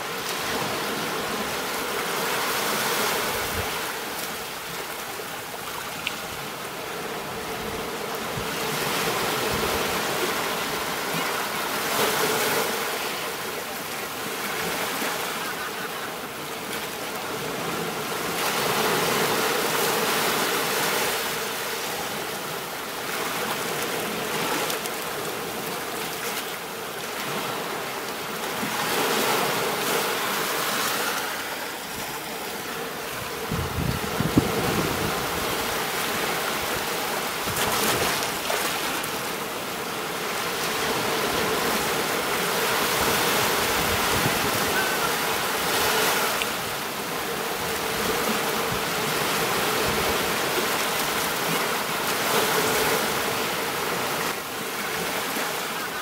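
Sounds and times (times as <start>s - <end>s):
ocean surf washing up beach: 0.0s - 56.0s.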